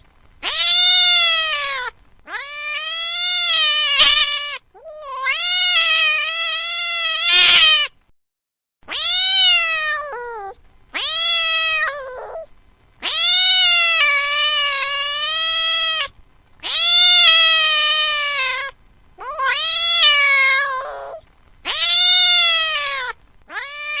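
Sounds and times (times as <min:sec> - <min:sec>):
cat meowing: 0:00.4 - 0:08.0, 0:08.9 - 0:24.0.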